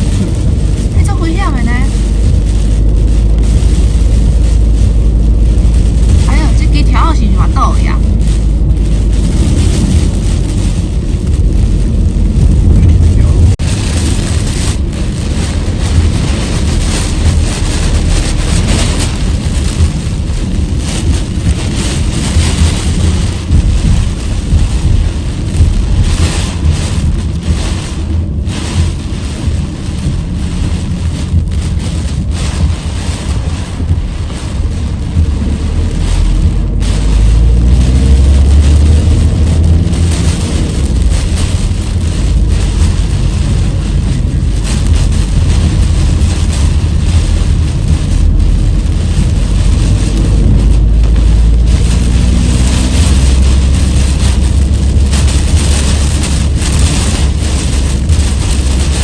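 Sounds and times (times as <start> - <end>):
heavy rain on car: 0.0 - 59.0
road noise: 0.0 - 59.0
wind rumbling against car: 0.0 - 59.0.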